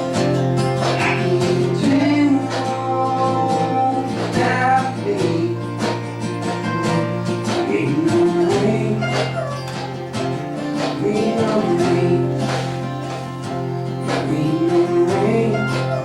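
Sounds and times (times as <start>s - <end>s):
acoustic country band playing: 0.0s - 16.0s
strummed acoustic guitar: 0.0s - 16.0s.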